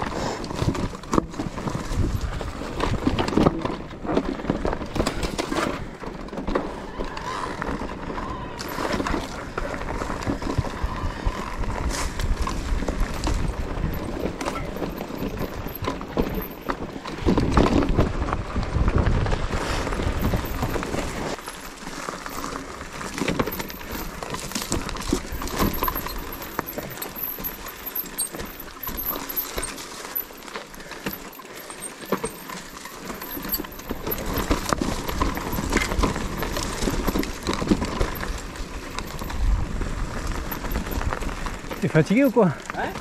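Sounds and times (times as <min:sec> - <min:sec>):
bike rattling down rocky trail: 0:00.0 - 0:43.0.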